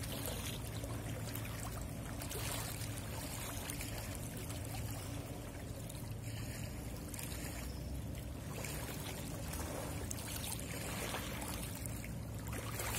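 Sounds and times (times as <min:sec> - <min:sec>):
water lapping against rocky bank: 0:00.0 - 0:12.9.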